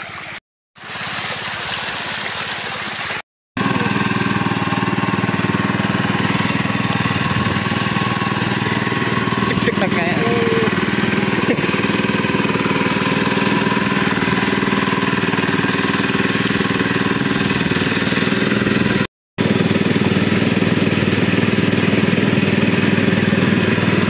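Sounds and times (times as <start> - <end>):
water pump motor running: 0.0 - 24.0.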